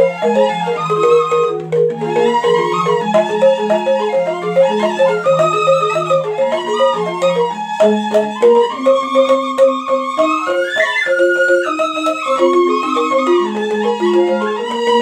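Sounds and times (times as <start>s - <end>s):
bamboo flute melody: 0.0s - 15.0s
bamboo xylophones struck with mallets: 0.0s - 15.0s.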